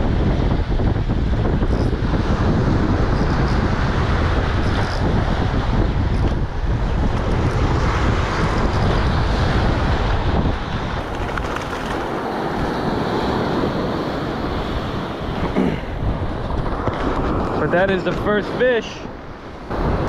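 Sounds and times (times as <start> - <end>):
ocean surf on sand beach: 0.0 - 20.0
wind buffeting microphone: 0.0 - 20.0.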